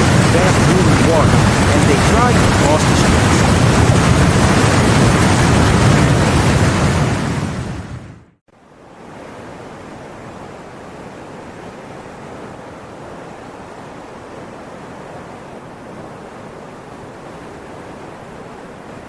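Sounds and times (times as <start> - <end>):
floodwater rushing: 0.0 - 7.2, 8.7 - 19.0.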